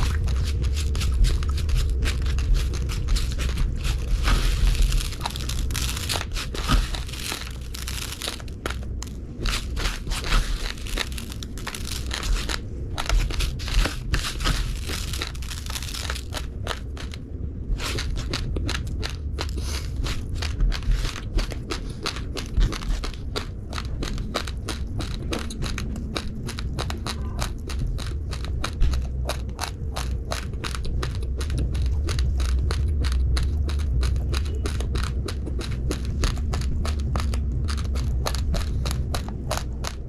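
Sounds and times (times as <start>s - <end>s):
low steady hum: 0.0s - 40.0s
rice grains being chewed: 0.0s - 40.0s.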